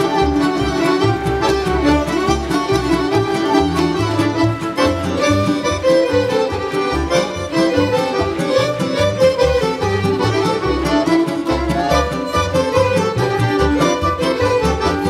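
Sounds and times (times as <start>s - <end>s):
fiddles playing folk dance music: 0.0s - 15.0s
rhythmic double bass: 0.0s - 15.0s.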